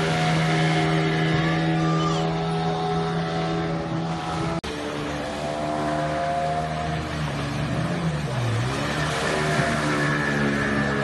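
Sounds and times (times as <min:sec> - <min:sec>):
outboard motor running: 0:00.0 - 0:11.0
water splashing: 0:00.0 - 0:11.0.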